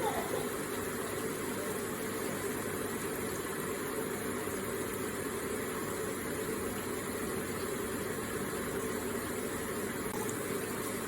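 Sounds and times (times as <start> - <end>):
water feature splashing and trickling: 0.0 - 11.0.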